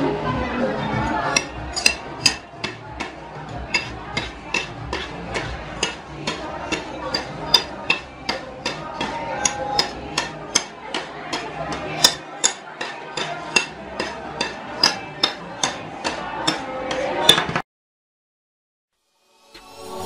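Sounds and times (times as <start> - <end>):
metal spatulas clacking on steel plate: 1.3 - 17.6.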